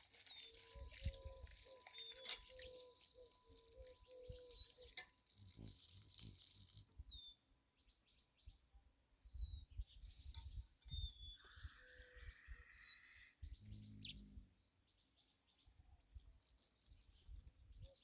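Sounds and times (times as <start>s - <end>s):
small birds calling: 0.0s - 18.0s.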